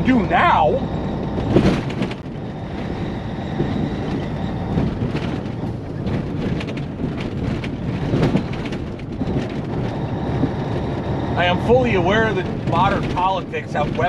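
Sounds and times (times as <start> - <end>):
rig clattering and knocking: 0.0 - 14.0
truck engine and tyre rumble: 0.0 - 14.0.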